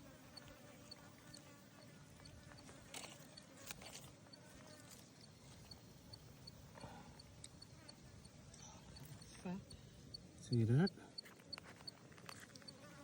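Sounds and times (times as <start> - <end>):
faint high insect chirp: 0.0 - 13.0.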